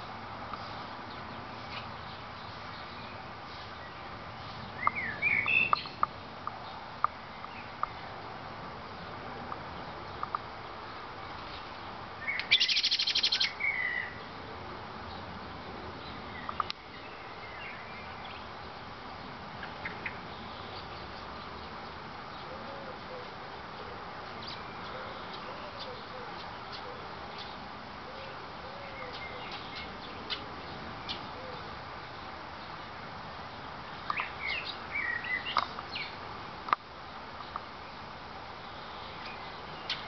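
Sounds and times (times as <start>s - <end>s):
birds chirping: 0.0s - 8.2s, 8.9s - 14.4s, 15.0s - 36.2s, 37.0s - 40.0s
background hiss: 0.0s - 40.0s.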